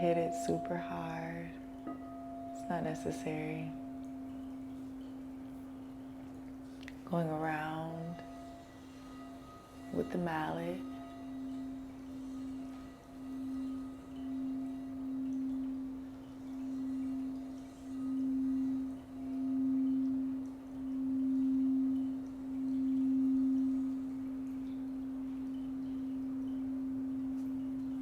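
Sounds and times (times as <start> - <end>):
singing bowl humming: 0.0 - 28.0.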